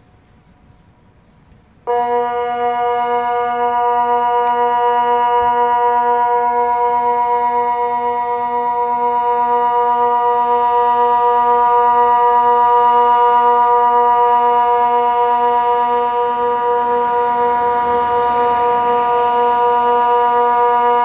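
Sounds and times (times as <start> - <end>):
electronic siren steady tone: 1.9 - 21.0.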